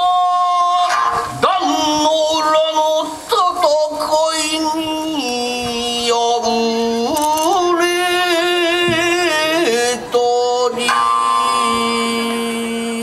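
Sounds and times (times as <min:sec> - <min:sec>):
person chanting with vibrato: 0:00.0 - 0:13.0.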